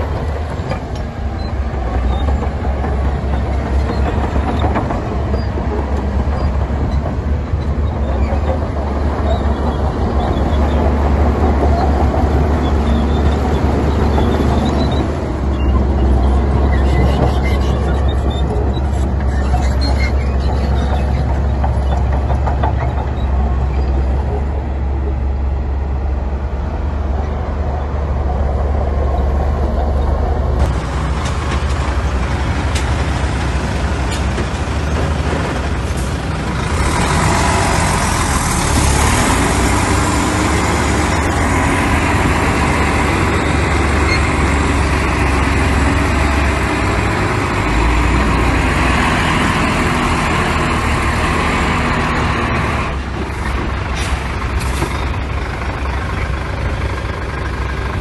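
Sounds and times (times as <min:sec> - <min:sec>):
heavy diesel machinery engine drone: 0:00.0 - 0:58.0.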